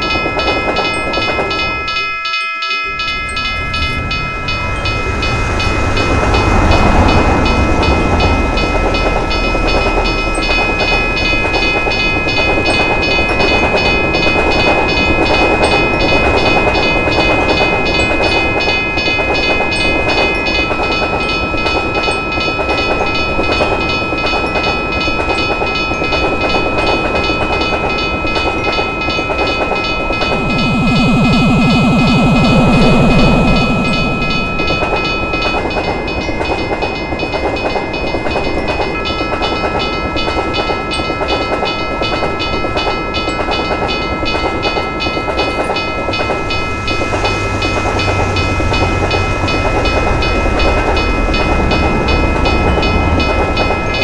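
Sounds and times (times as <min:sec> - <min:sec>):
railroad crossing bell ringing: 0:00.0 - 0:54.0
train rumbling past: 0:02.8 - 0:54.0.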